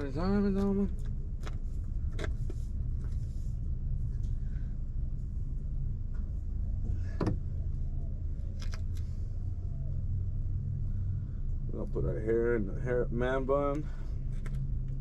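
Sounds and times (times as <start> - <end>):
car interior engine rumble: 0.0 - 15.0.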